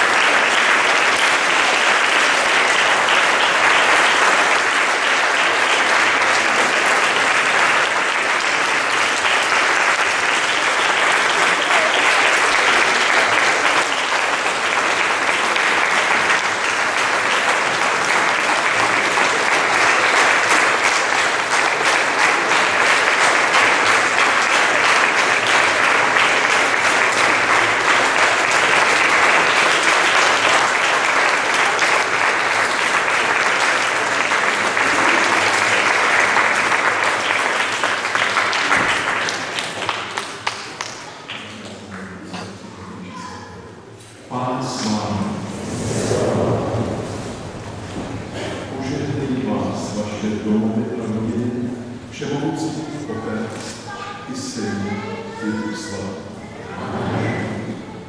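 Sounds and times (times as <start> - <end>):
congregation applauding: 0.0 - 43.4, 44.1 - 58.0.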